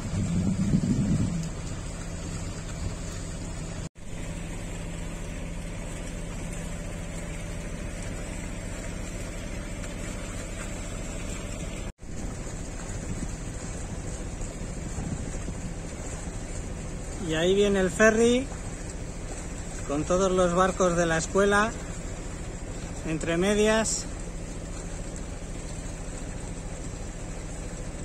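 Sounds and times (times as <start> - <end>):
boat engine humming: 0.0 - 28.0
water noise: 0.0 - 28.0
wind: 0.0 - 28.0.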